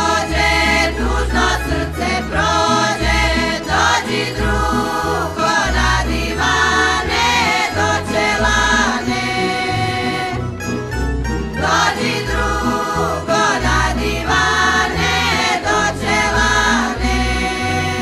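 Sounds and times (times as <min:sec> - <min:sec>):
women singing folk song together: 0:00.0 - 0:10.5, 0:11.6 - 0:18.0.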